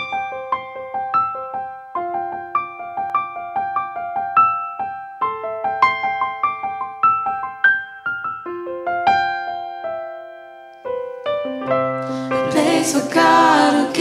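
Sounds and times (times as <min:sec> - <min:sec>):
piano playing: 0:00.0 - 0:14.0.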